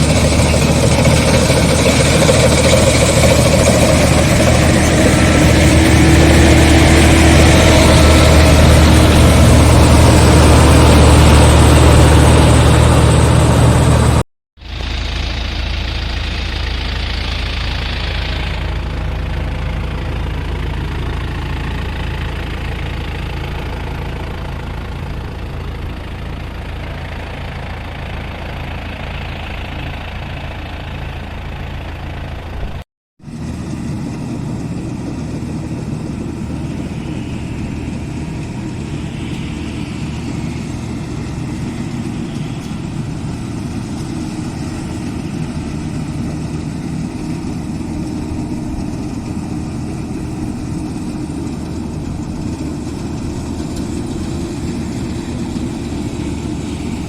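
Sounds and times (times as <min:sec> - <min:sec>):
harvester engine and machinery running: 0:00.0 - 0:57.0.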